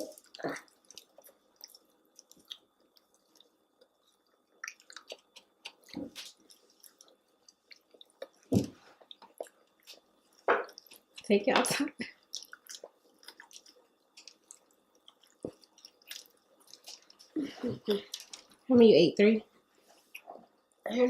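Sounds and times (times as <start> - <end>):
people chewing: 0.0 - 18.7.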